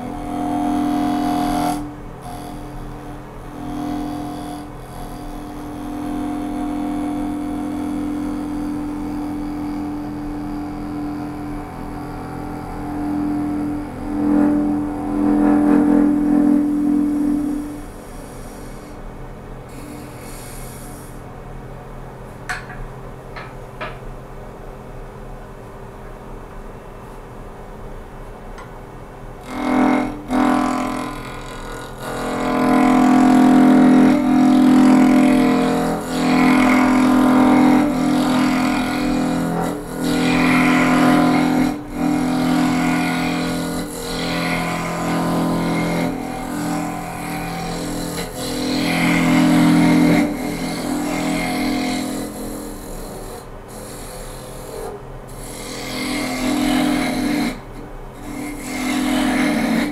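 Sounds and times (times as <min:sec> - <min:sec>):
turning tool cutting wood: 0:00.0 - 0:19.0, 0:19.7 - 0:21.2, 0:29.4 - 0:59.9
wood lathe droning hum: 0:00.0 - 0:21.6, 0:29.2 - 0:59.9.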